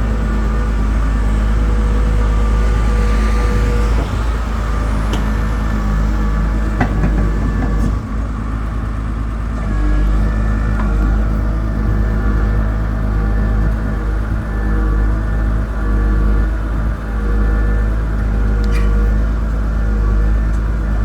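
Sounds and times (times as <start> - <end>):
pile driver engine running: 0.0 - 21.0.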